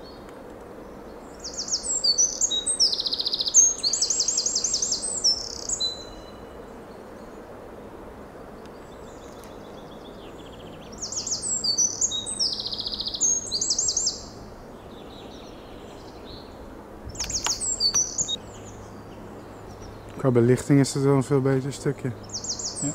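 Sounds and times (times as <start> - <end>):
songbird trilling: 0.8 - 7.4, 8.6 - 20.4, 22.1 - 22.9.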